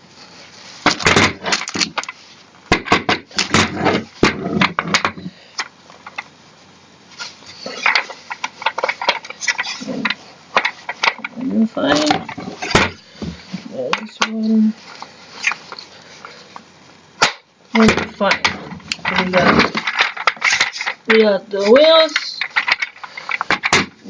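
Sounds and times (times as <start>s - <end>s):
chair parts clicking and clattering: 0.8s - 6.4s, 7.1s - 16.6s, 17.2s - 24.0s.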